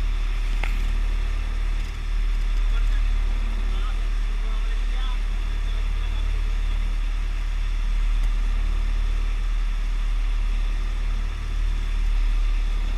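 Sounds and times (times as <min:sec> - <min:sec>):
boat engine droning: 0:00.0 - 0:12.9.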